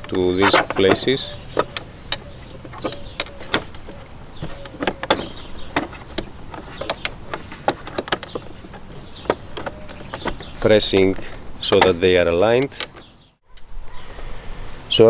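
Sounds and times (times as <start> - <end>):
plastic panel clicking and knocking: 0.0 - 13.2.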